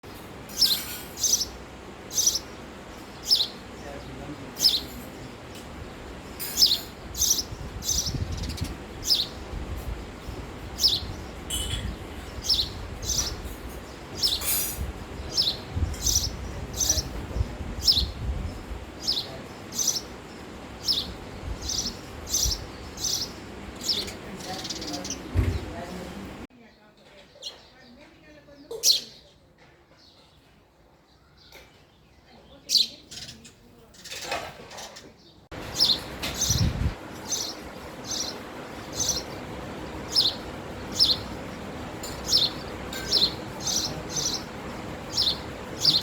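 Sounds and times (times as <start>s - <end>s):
sparrow chirping: 0.0s - 26.4s, 27.3s - 29.4s, 30.0s - 46.0s.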